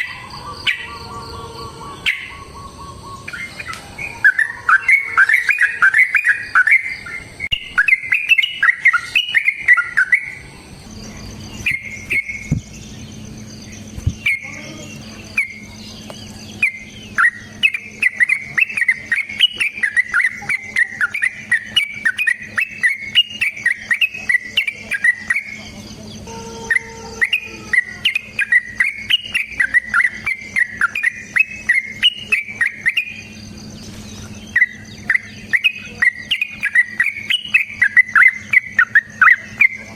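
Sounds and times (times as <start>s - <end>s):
bird singing bubbling song: 0.0s - 39.9s.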